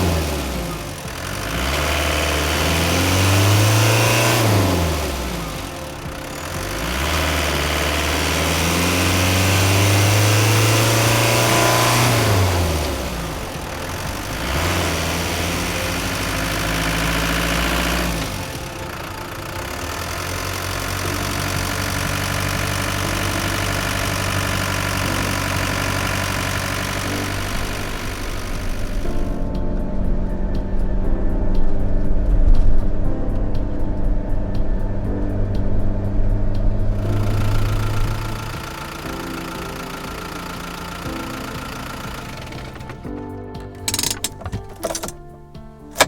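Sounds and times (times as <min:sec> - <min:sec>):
diesel van engine revving: 0:00.0 - 0:46.0.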